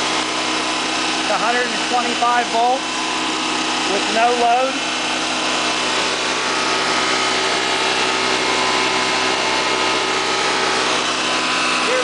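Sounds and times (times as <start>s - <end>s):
generator engine hum: 0.0s - 12.0s.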